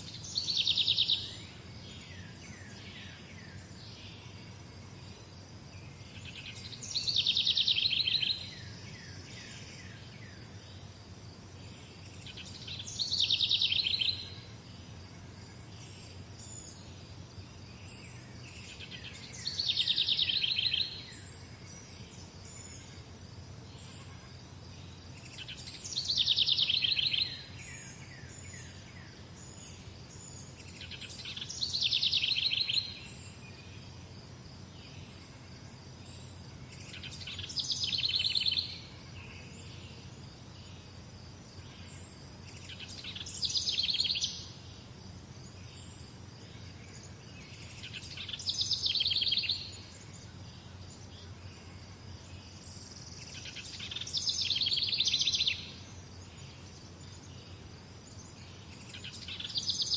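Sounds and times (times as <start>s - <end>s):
songbird song with trill: 0.0s - 59.9s.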